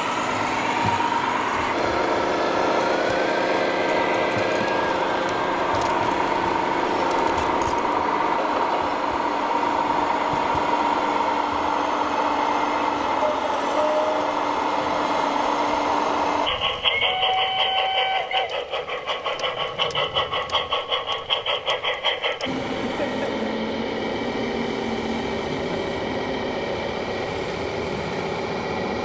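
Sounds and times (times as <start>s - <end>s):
model steam locomotive chuffing: 0.0s - 29.0s
model truck running: 0.0s - 29.0s.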